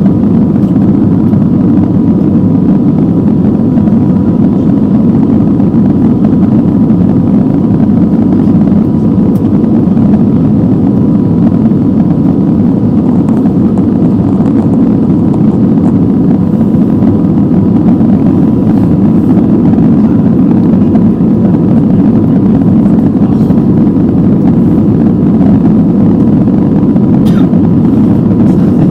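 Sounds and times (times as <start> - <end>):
jet engine rumble in cabin: 0.0 - 28.9.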